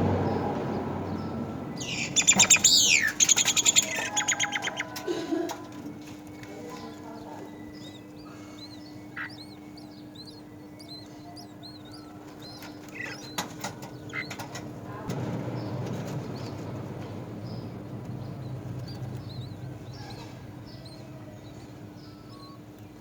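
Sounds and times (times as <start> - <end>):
birds chirping: 0.0 - 23.0
wings fluttering: 1.8 - 21.8.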